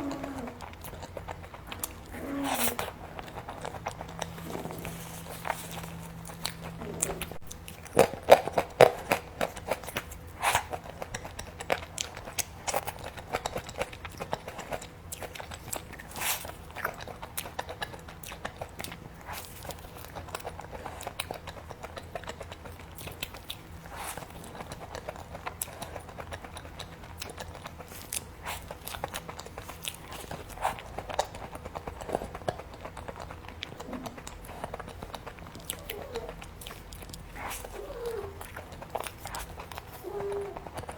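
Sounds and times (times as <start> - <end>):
person chewing and crunching: 0.0 - 40.9.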